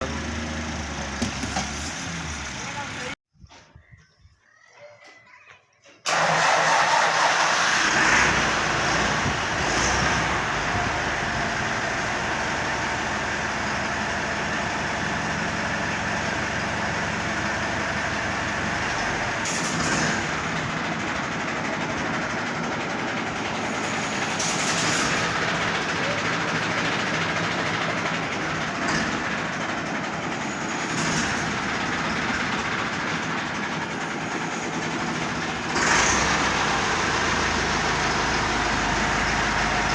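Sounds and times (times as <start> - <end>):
tractor diesel engine running: 0.0 - 3.2, 6.0 - 39.9.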